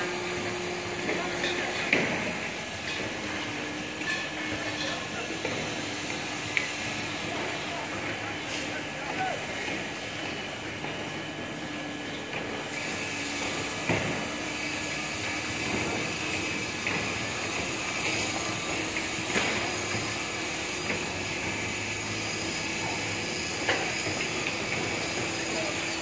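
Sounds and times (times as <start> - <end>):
diesel machinery running: 0.0 - 26.0.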